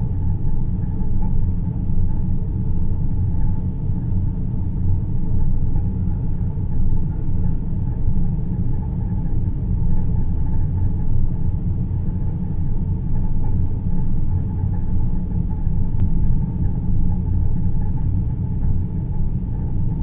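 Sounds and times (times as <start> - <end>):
faint even hum: 0.0 - 20.0
low rumbling drone: 0.0 - 20.0.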